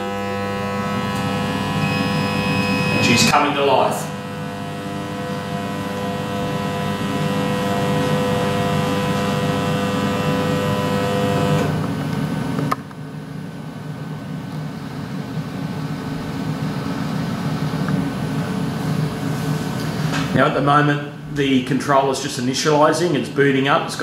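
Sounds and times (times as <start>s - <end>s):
milling machine hum and whine: 0.0s - 21.4s.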